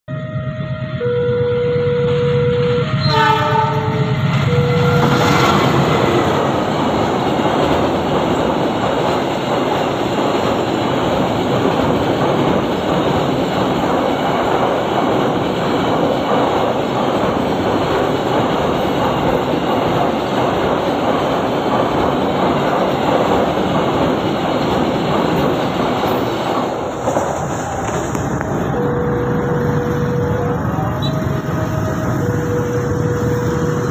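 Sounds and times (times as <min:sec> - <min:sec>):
diesel locomotive passing: 0:00.1 - 0:33.9
train wheels clattering on rails: 0:03.2 - 0:33.9.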